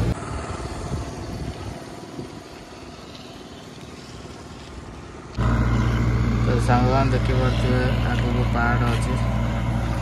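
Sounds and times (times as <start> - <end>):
wind on microphone: 0.0 - 8.3
road noise: 0.0 - 10.0
scooter engine rumble: 0.0 - 10.0.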